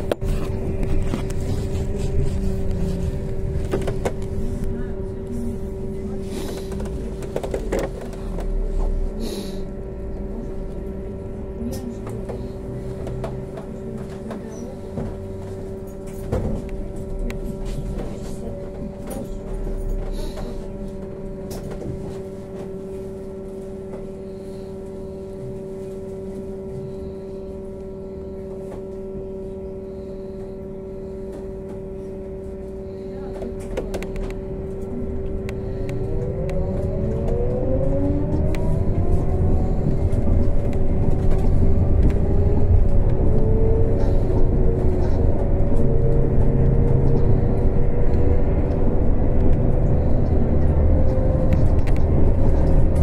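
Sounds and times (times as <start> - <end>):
electrical hum: 0.0 - 53.0
low rumble: 0.0 - 53.0.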